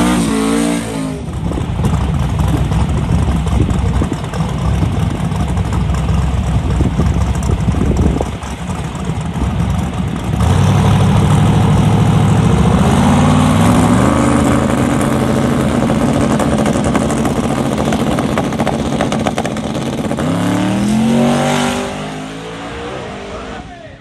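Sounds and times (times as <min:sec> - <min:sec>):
drag racing car engine revving: 0:00.0 - 0:23.9.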